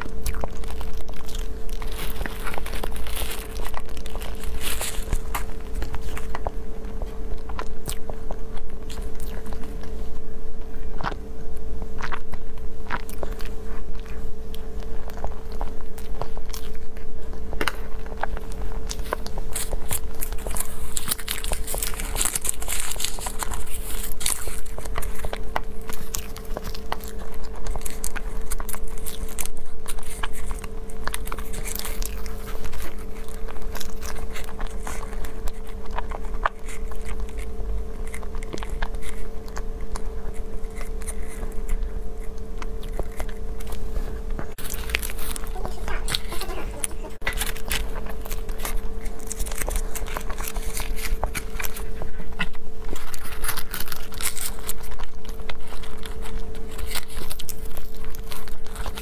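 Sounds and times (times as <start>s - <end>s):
paper crinkling: 0.0s - 10.2s, 14.6s - 59.0s
steady low hum: 0.0s - 59.0s
wet chewing: 0.0s - 59.0s.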